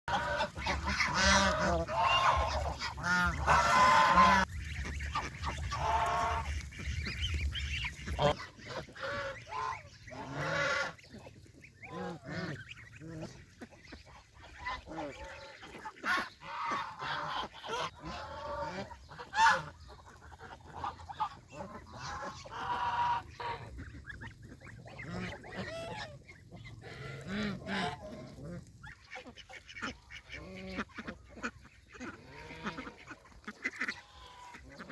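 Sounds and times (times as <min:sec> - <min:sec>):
geese honking: 0:00.1 - 0:34.9.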